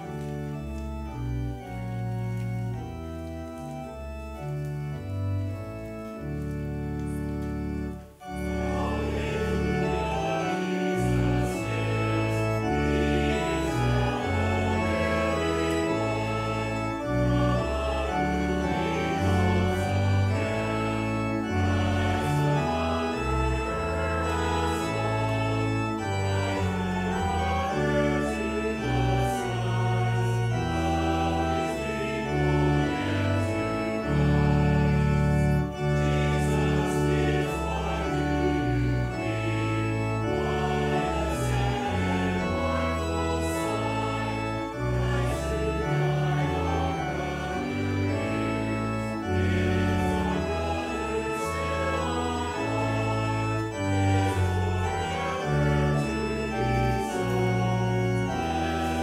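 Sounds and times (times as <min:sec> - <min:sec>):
church organ playing: 0:00.0 - 0:59.0
congregation singing a hymn: 0:00.0 - 0:59.0.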